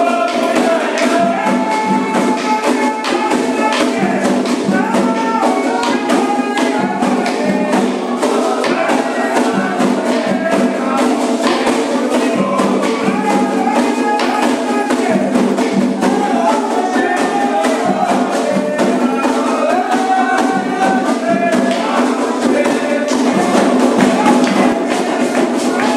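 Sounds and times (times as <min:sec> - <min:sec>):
fast hand percussion: 0:00.0 - 0:25.9
group call-and-response singing: 0:00.0 - 0:25.9
jingling shaker rhythm: 0:00.0 - 0:25.9.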